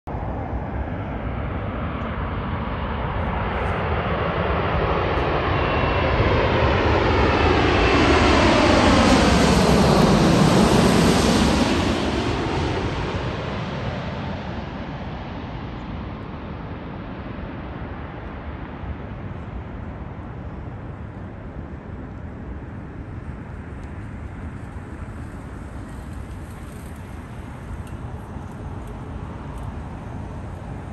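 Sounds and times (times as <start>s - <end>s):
jet flying past: 0.1s - 30.9s.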